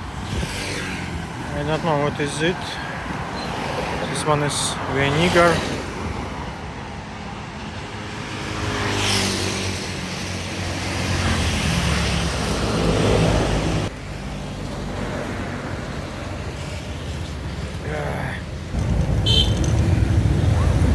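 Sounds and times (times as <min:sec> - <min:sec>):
engine and road noise: 0:00.0 - 0:20.9
vehicle engines passing: 0:00.0 - 0:20.9.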